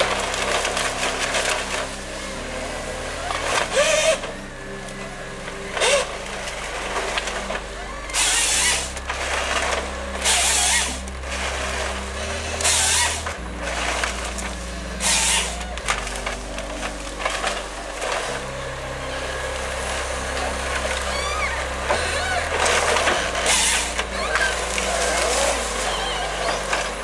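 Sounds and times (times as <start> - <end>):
harsh hissing or grinding bursts: 0.0 - 27.0
heavy machinery droning: 0.0 - 27.0.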